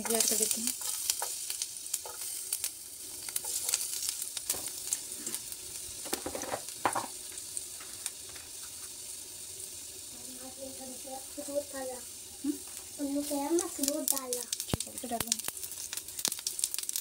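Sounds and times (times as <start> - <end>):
garlic sizzling in a pan: 0.0 - 17.0.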